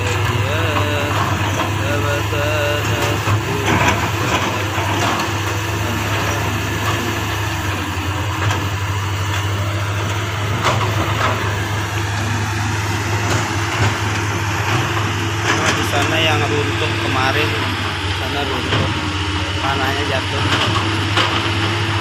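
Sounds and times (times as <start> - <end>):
excavator diesel engines running: 0.0 - 22.0.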